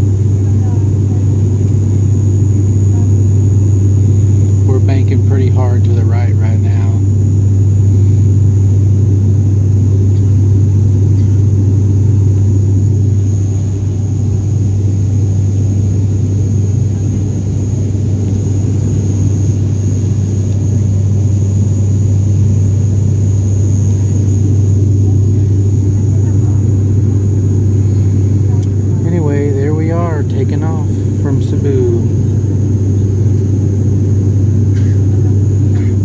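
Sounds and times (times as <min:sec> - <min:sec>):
jet engines and airflow drone: 0:00.0 - 0:36.0.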